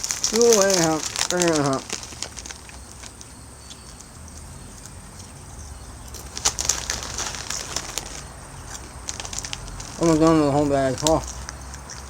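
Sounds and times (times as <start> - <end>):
chip bag crinkling: 0.0 - 12.0
faint low hum: 0.0 - 12.0.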